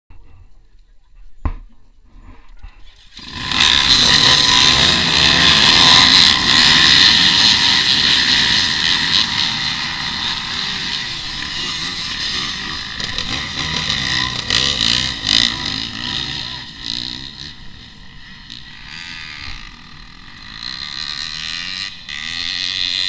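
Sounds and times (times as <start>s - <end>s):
dirt bike engines revving: 2.7s - 23.0s.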